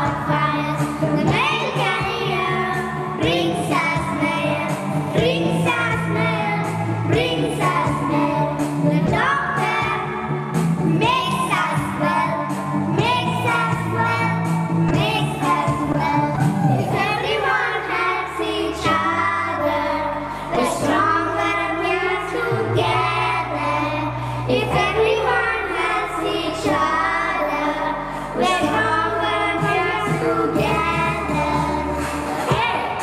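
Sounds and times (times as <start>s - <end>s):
girls singing together: 0.0s - 33.0s
instrumental backing track: 0.0s - 33.0s.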